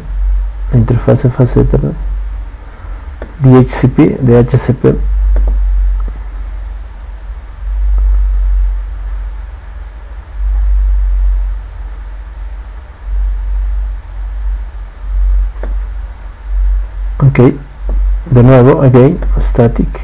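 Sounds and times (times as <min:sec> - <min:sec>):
deep low rumble: 0:00.0 - 0:20.0.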